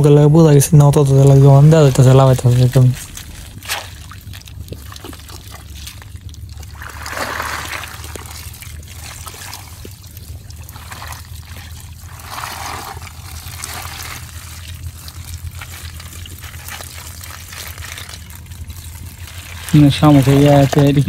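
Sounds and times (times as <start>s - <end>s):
water pouring from net trap: 1.1s - 21.0s.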